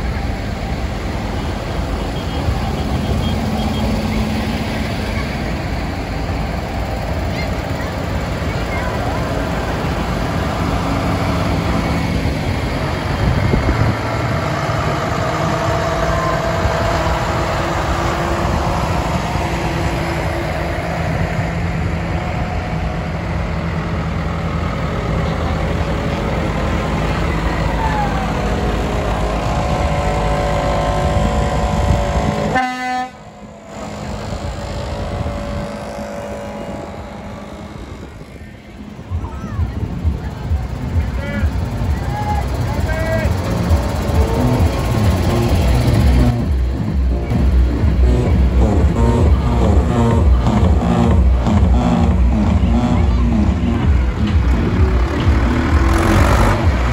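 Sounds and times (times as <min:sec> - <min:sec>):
tractor diesel engines passing: 0:00.0 - 0:56.9
horns tooting: 0:00.9 - 0:25.0, 0:26.8 - 0:56.9.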